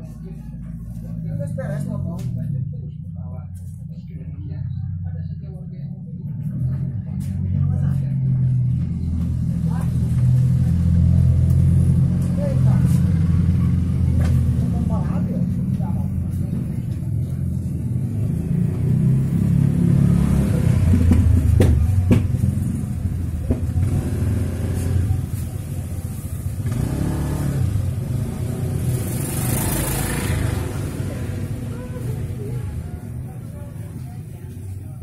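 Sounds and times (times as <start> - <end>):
low engine-like rumble: 0.0 - 26.8, 30.4 - 35.0.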